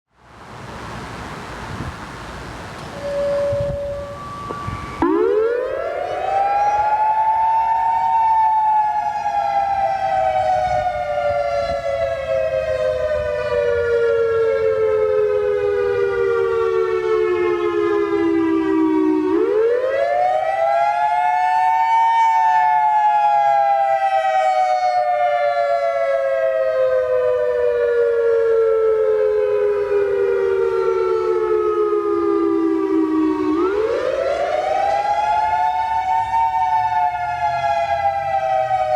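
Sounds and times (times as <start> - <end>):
fire siren wailing: 2.8 - 38.9.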